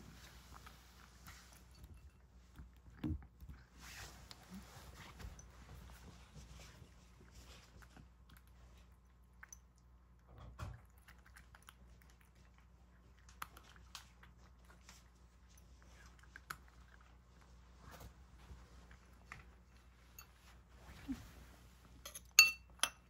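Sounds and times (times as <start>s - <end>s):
cat crunching food: 0.1s - 4.5s, 5.5s - 20.1s.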